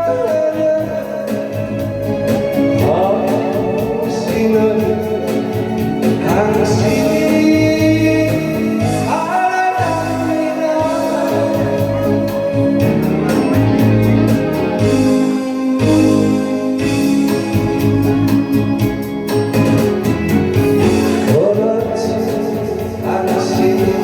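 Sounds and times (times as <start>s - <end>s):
person singing: 0.0s - 19.7s, 20.3s - 24.0s
backing track with steady beat: 0.0s - 24.0s.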